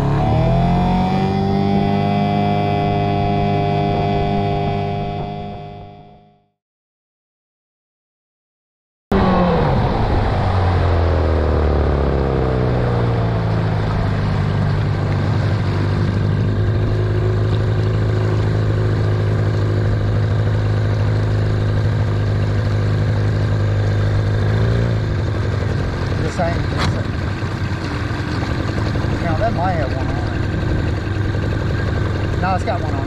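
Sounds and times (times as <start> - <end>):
outboard motor running: 0.0 - 6.4, 9.1 - 33.0.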